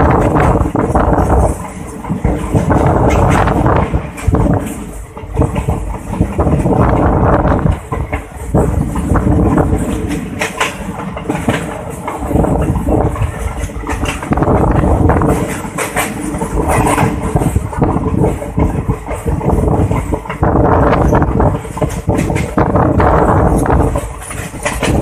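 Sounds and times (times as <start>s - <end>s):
train rumble: 0.0s - 25.0s
wheels clattering: 0.0s - 25.0s.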